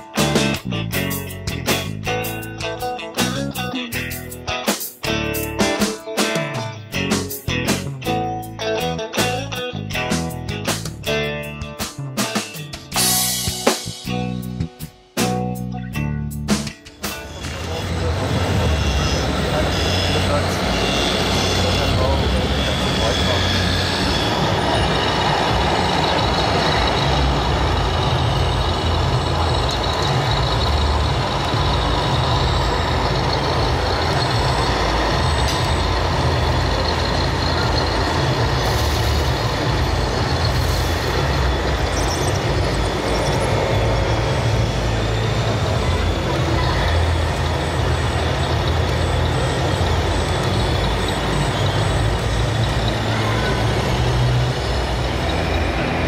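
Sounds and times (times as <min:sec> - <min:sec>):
simulated diesel engine rumble: 0:00.0 - 0:05.8, 0:06.6 - 0:56.0.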